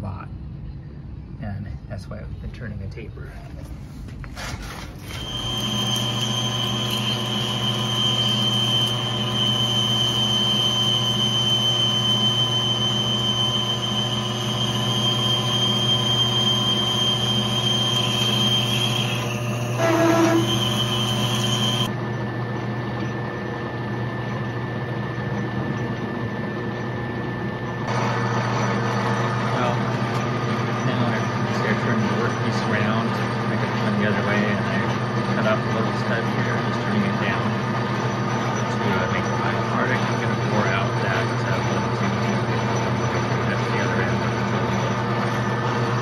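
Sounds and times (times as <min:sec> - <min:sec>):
cutting tool high whine: 0:05.0 - 0:22.2, 0:23.0 - 0:46.0
lathe motor hum: 0:05.0 - 0:46.0.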